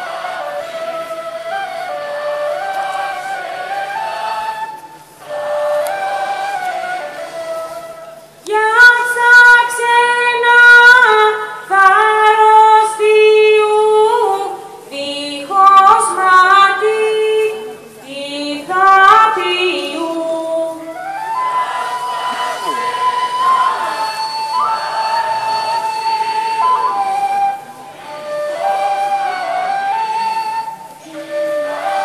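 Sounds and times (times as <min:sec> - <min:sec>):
woman singing long held notes: 0:00.0 - 0:32.0.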